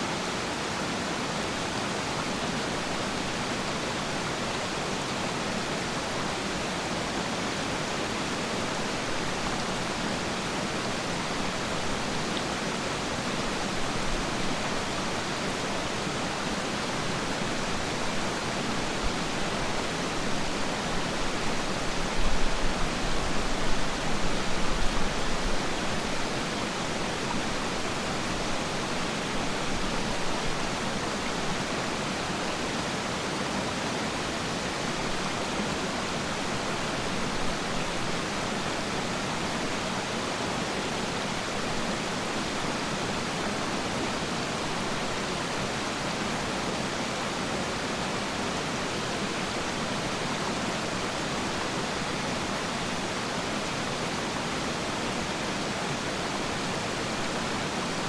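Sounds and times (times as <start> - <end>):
low rumbling water surges: 0.0 - 58.0
waterfall rushing: 0.0 - 58.0.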